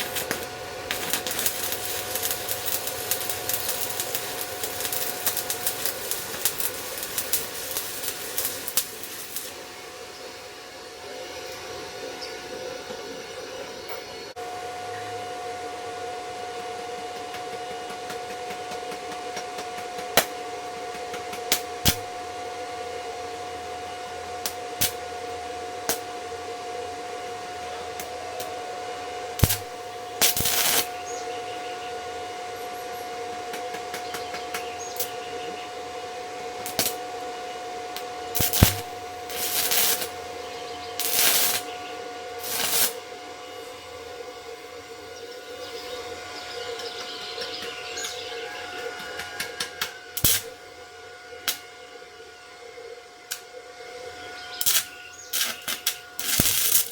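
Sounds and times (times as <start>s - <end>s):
welding arc hiss: 0.0s - 14.4s, 16.5s - 56.9s
steady hum: 0.0s - 56.9s.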